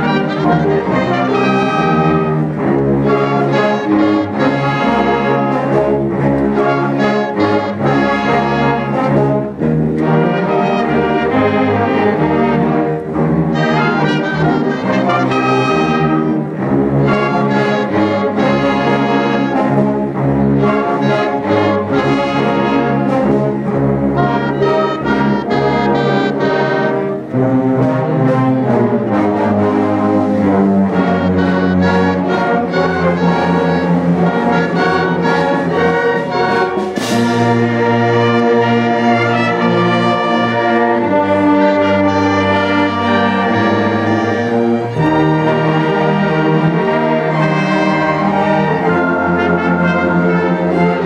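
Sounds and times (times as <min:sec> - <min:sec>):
brass: 0:00.0 - 0:51.0
orchestra playing slow film music: 0:00.0 - 0:51.0.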